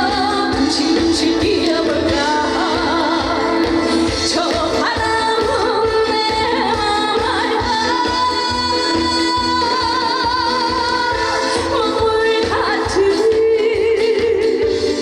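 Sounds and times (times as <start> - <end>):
instrumental backing with steady beat: 0.0 - 15.0
woman singing: 0.0 - 15.0.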